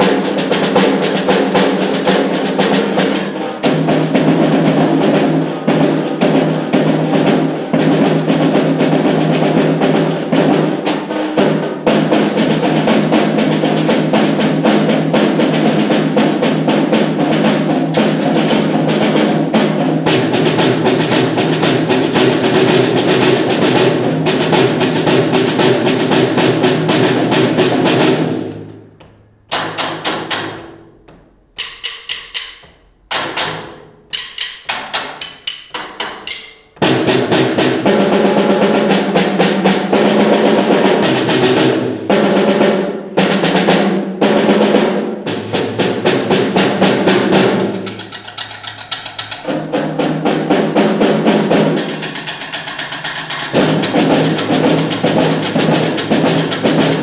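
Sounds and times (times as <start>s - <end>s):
sharp drum strokes and clicks: 0.0s - 57.0s
snare drum ensemble playing: 0.0s - 57.0s.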